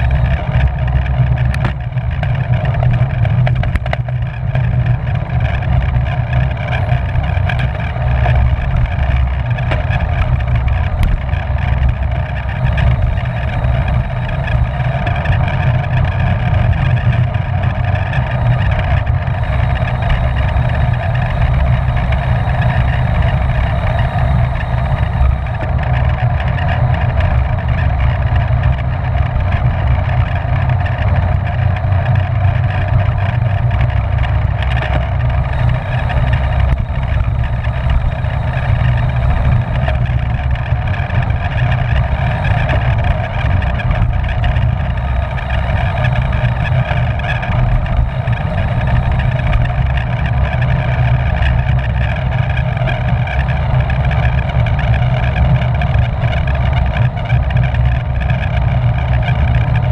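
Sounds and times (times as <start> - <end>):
constant whine: 0.0 - 59.9
wind buffeting microphone: 0.0 - 59.9.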